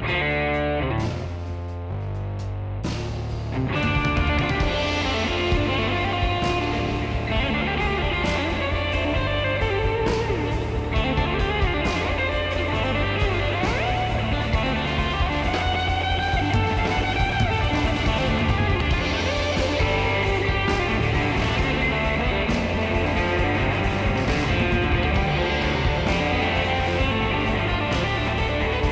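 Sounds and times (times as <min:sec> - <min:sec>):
rock music with electric guitar: 0:00.0 - 0:01.9, 0:02.8 - 0:28.9.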